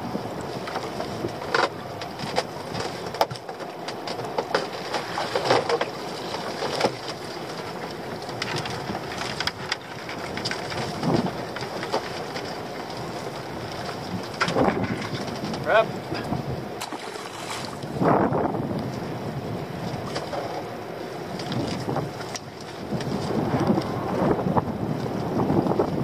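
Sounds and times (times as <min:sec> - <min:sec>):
wind on microphone: 0:00.0 - 0:03.3, 0:05.0 - 0:26.0
sea noise: 0:00.0 - 0:26.0
knocks and clicks on boat: 0:00.3 - 0:19.1, 0:19.8 - 0:24.3.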